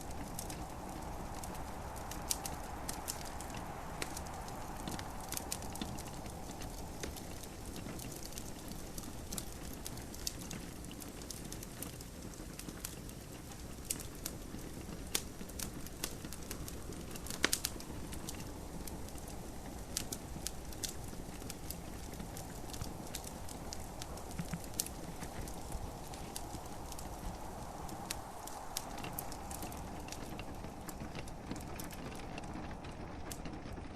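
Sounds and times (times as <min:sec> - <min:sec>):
gentle rain: 0:00.0 - 0:33.9
wood fire crackling and popping: 0:00.0 - 0:33.9.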